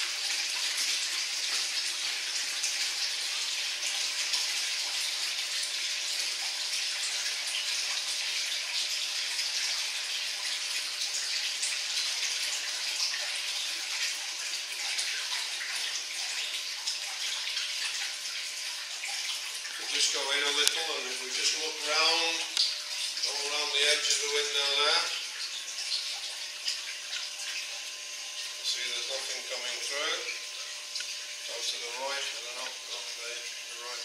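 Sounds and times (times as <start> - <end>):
water pouring into tank: 0.0 - 34.0.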